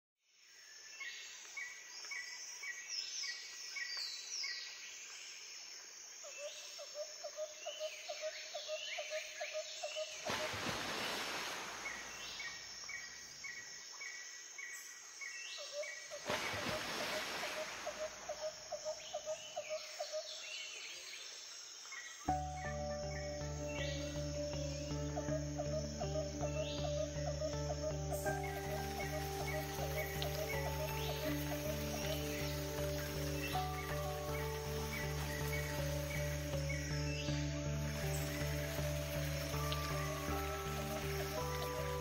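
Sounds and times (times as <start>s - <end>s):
birds chirping: 7.5s - 42.0s.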